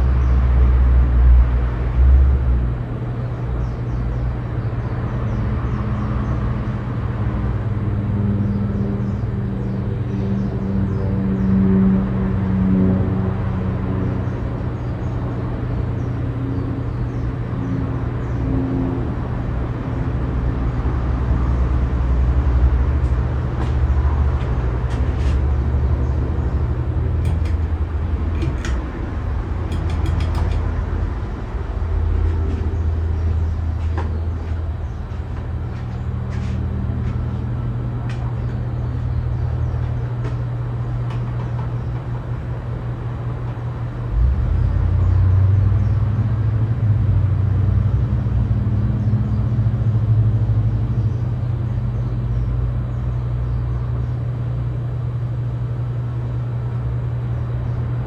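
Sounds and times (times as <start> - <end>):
ceiling fan motor hum: 0.0 - 58.0.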